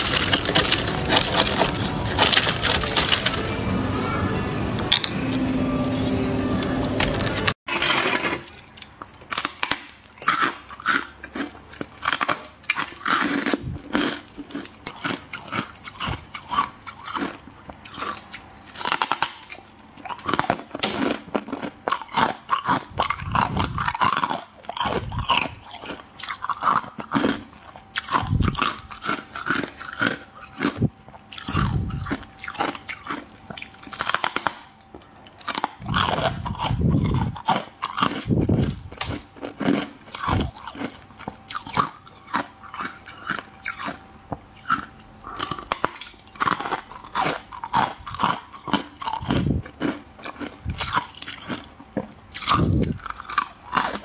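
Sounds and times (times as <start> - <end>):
frost being chewed crunching: 0.0 - 3.9, 7.0 - 54.0.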